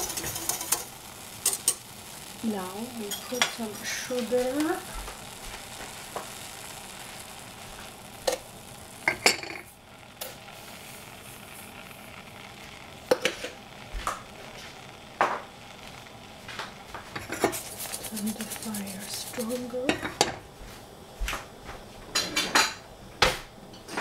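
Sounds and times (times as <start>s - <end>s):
gas hob hissing: 0.0s - 24.0s.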